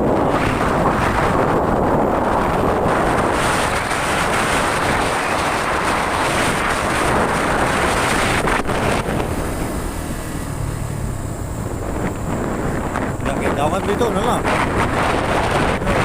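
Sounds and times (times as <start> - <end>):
moving vehicle noise: 0.0 - 16.0
wind buffeting microphone: 0.0 - 16.0.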